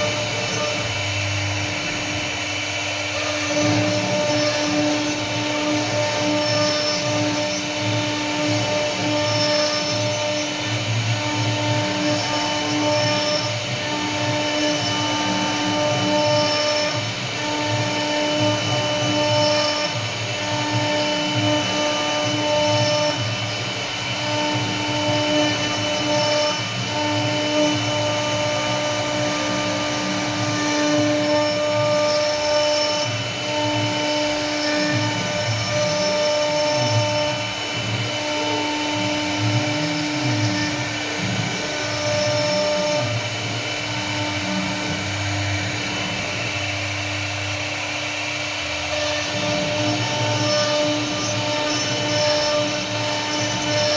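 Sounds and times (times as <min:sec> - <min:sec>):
router spindle whine: 0:00.0 - 0:53.9.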